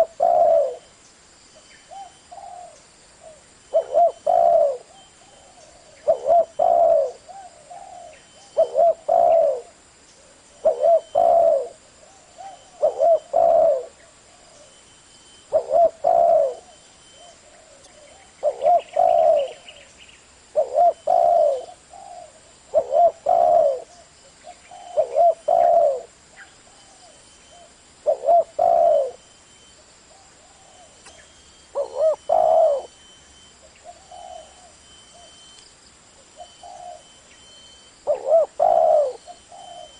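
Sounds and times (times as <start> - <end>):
dove cooing: 0.0 - 0.9, 1.9 - 14.8, 15.4 - 19.9, 20.5 - 29.2, 30.1 - 35.4, 36.2 - 39.9.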